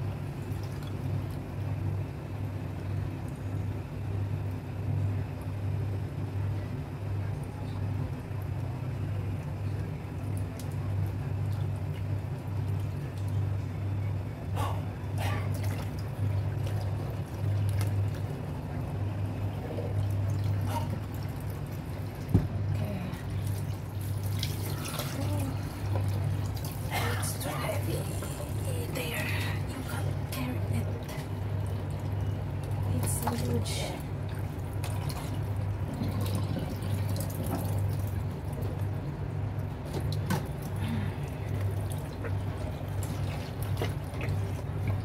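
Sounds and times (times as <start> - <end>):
steady low hum: 0.0 - 45.0
faint water drips: 0.4 - 1.6, 7.2 - 45.0
water running in a sink: 6.6 - 14.2, 15.1 - 45.0.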